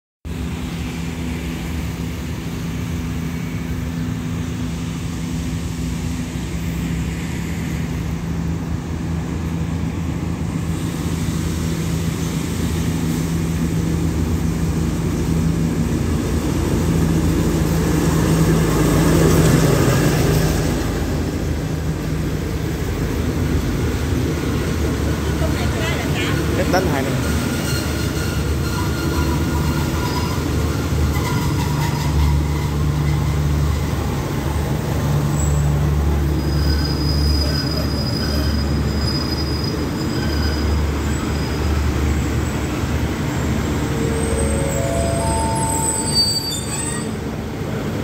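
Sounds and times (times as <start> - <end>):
diesel locomotive engine hum: 0.3 - 48.0
train coaches rolling by: 0.3 - 48.0.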